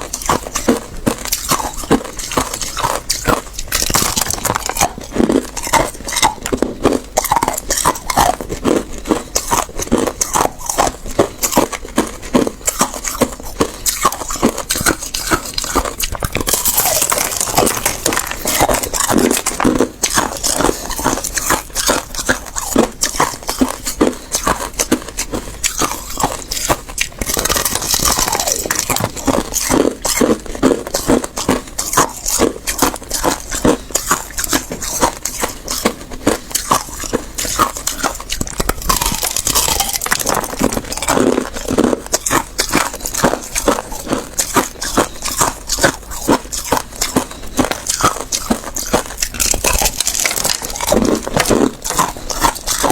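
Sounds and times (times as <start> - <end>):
person crunching ice: 0.0 - 52.9.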